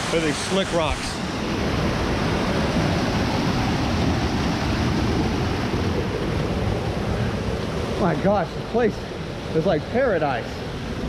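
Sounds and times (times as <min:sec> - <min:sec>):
river and waterfall rushing: 0:00.0 - 0:11.0.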